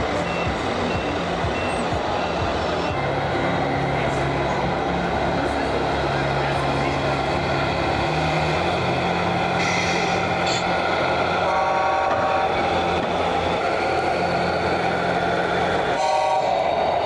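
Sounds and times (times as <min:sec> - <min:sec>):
simulated truck diesel engine: 0:00.0 - 0:17.0.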